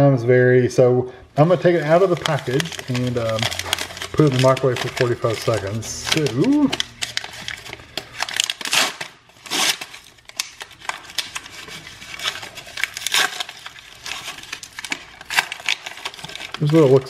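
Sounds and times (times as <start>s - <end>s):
packaging rustling and crinkling: 1.5s - 17.0s
wrapper ripping: 1.6s - 17.0s.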